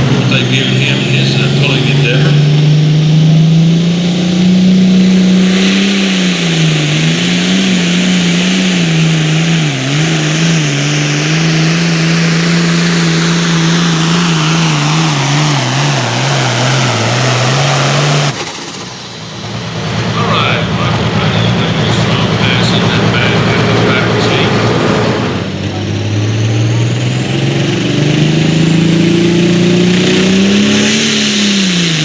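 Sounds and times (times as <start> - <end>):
engine at full throttle under load: 0.0 - 32.0.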